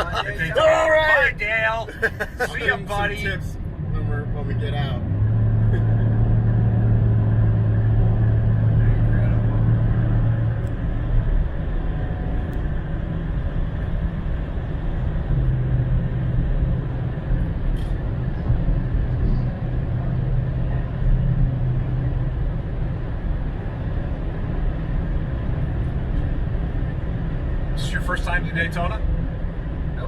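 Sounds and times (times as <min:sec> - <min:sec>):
truck engine droning: 0:00.0 - 0:30.0
tyre and road noise: 0:00.0 - 0:30.0.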